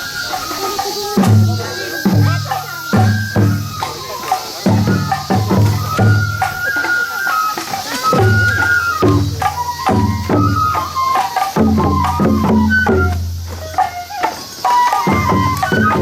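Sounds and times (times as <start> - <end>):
high festival melody: 0.0 - 16.0
repeated drum beats: 0.0 - 16.0.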